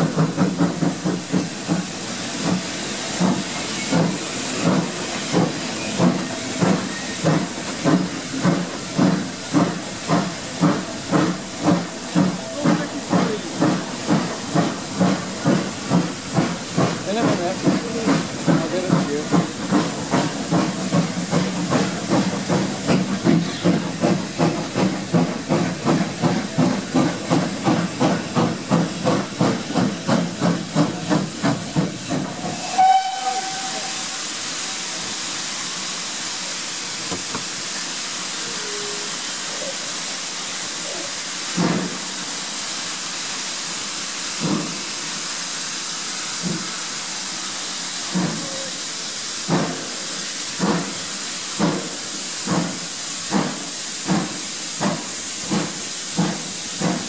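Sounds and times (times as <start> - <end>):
hiss of steam and passing air: 0.0 - 57.0
steam locomotive exhaust beats: 0.0 - 57.0.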